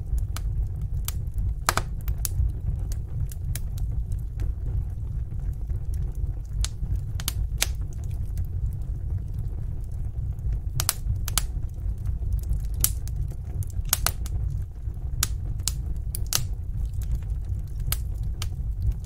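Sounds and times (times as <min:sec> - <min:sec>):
low rumble of flames: 0:00.0 - 0:19.0
wood fire crackling: 0:00.0 - 0:19.0.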